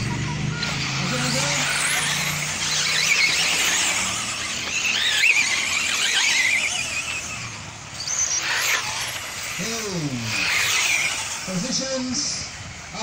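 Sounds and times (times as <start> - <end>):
rc car electric motor whine: 0.0 - 13.0.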